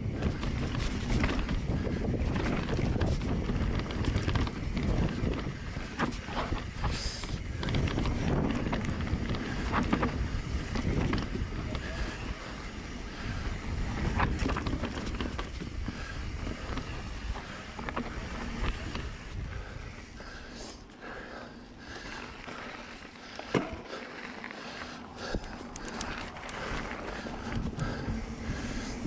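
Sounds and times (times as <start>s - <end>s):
wind buffeting microphone: 0.0s - 20.6s, 25.1s - 29.0s
bike rattling and knocking: 0.0s - 29.0s
tyres rumbling on dirt: 0.0s - 29.0s.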